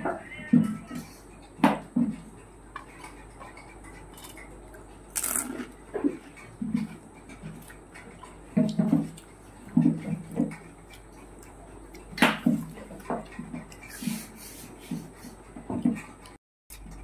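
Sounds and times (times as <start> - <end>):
chewing and crunching: 0.6 - 17.0.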